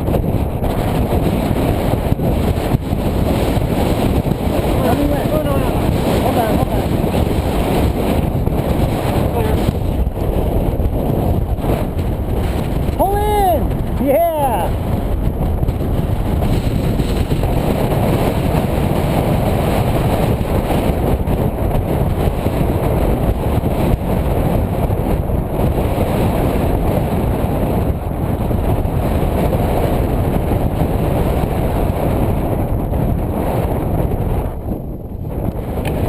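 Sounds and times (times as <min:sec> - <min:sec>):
strong wind on microphone: 0:00.0 - 0:36.0.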